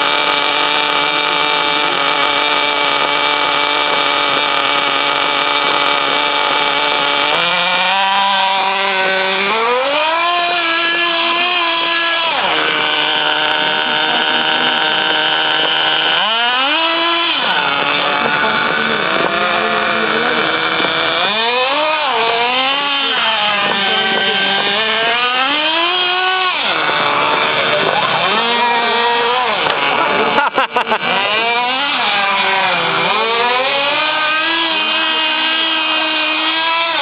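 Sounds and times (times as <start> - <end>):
rc car engines revving: 0.0 - 37.0.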